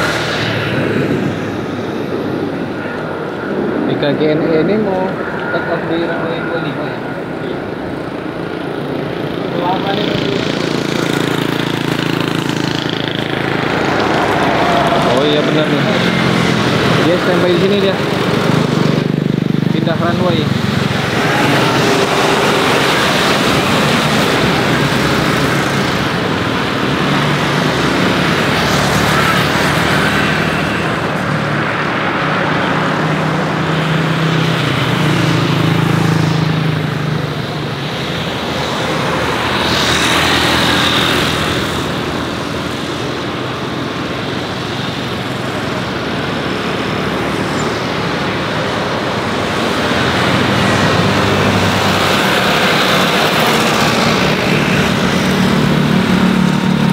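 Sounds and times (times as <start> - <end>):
engine and traffic rumble: 0.0 - 56.9.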